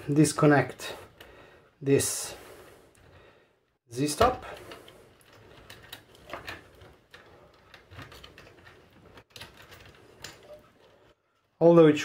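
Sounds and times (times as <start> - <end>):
faint clicks and rustles of wires: 0.0 - 12.0.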